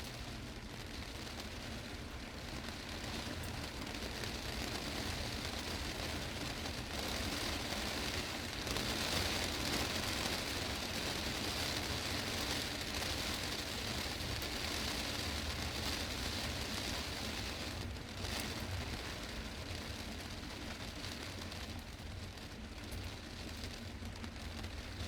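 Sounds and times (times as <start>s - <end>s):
heavy rain on glass roof: 0.0s - 25.0s.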